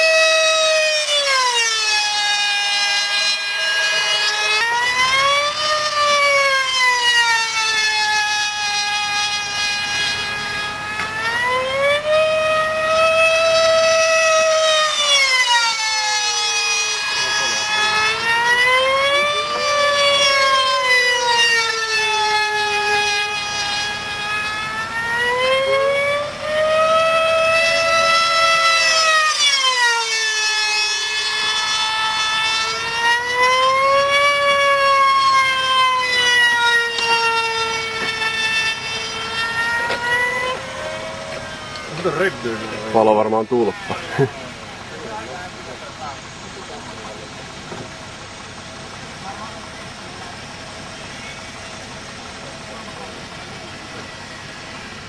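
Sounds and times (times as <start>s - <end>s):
model plane engine whining: 0.0s - 55.0s.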